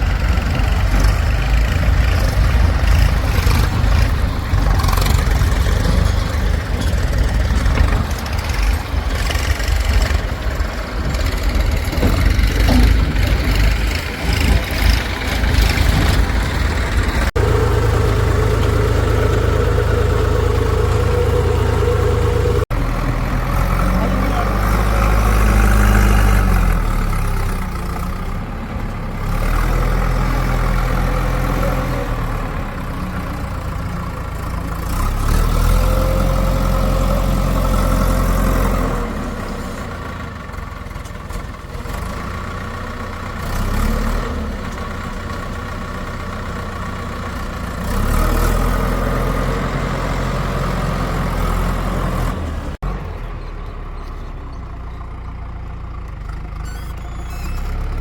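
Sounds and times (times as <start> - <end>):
diesel engine revving under load: 0.0 - 58.0.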